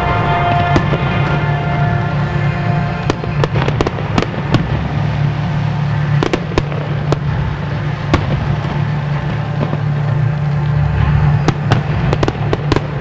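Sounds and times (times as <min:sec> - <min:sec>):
firework shells bursting: 0:00.0 - 0:13.0
steady low hum: 0:00.0 - 0:13.0.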